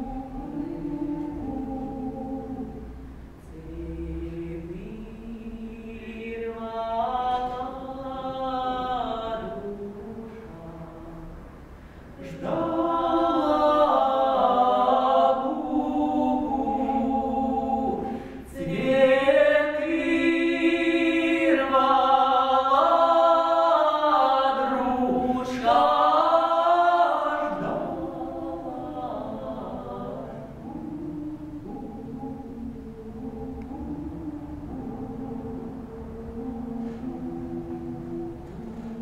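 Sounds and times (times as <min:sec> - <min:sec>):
man and woman singing in harmony: 0:00.0 - 0:39.0.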